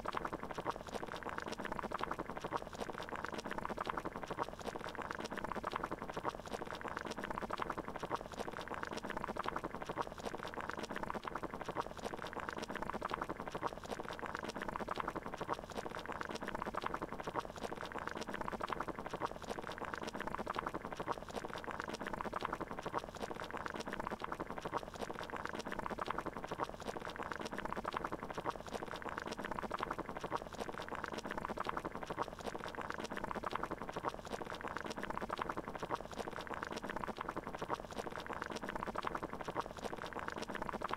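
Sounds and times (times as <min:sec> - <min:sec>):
water boiling and bubbling: 0:00.0 - 0:40.9.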